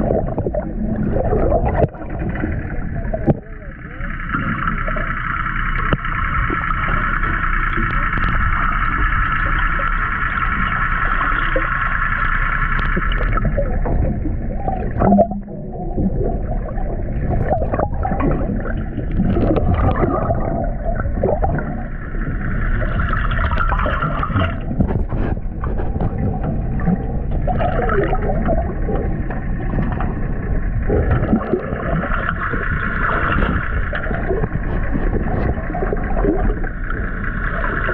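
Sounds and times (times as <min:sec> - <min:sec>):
muffled underwater rumble: 0:00.0 - 0:37.9
water gurgling: 0:00.0 - 0:37.9.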